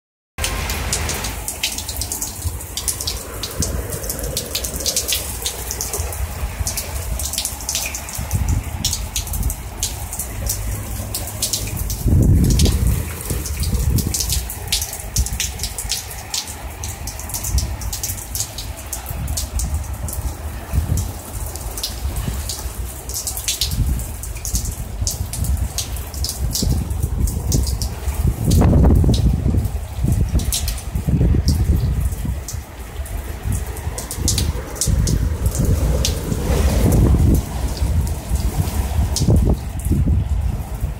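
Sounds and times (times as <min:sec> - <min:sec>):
heavy rain falling: 0:00.4 - 0:40.9
raindrops ticking close by: 0:00.4 - 0:40.9.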